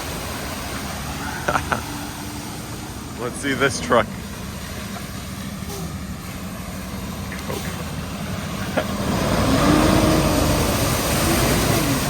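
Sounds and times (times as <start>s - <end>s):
rush of pushed water: 0.0s - 12.0s
truck engine rumble: 0.0s - 12.0s.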